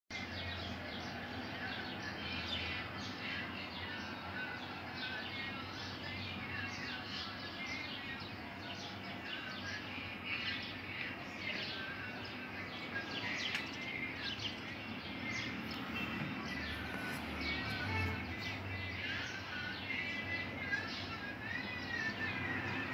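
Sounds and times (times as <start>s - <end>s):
small birds chirping: 0.1s - 22.9s.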